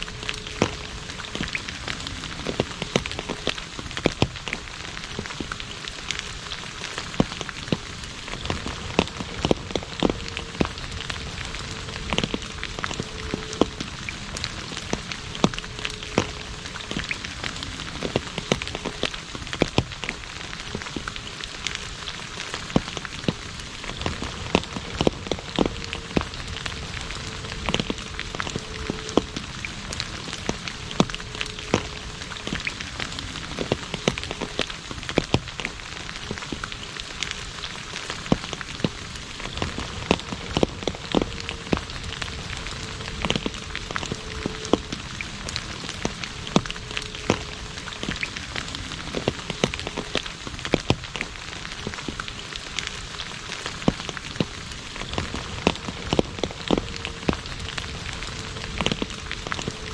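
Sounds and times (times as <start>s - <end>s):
rain falling on asphalt: 0.0s - 59.9s
raindrop splashes: 0.0s - 59.9s.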